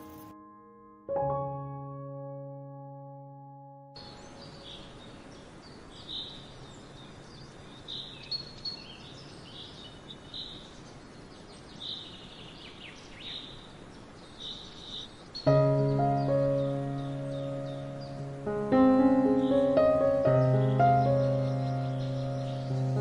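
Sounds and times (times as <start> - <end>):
small birds chirping: 4.0 - 23.0
steady background hiss: 4.0 - 23.0.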